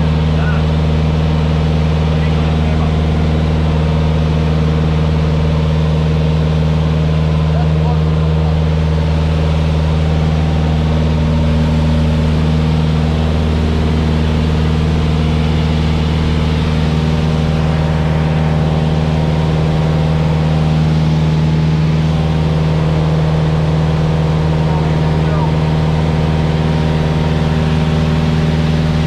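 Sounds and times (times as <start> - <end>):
light aircraft engine and propeller: 0.0 - 29.0.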